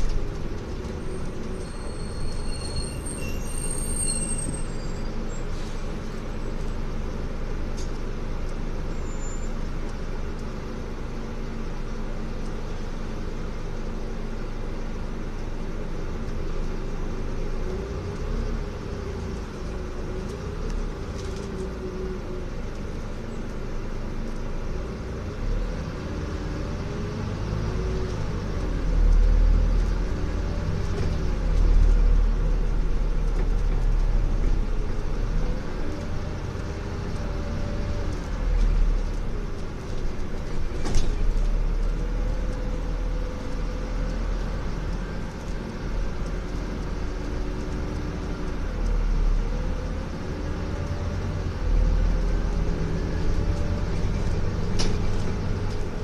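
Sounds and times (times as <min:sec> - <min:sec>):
bus diesel engine rumble: 0:00.0 - 0:56.0.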